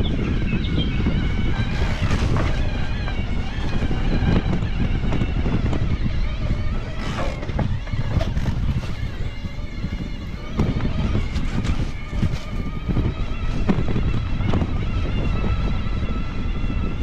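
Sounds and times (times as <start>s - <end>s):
bike rattling on dirt trail: 0.0s - 16.9s
wind buffeting microphone: 0.0s - 17.0s.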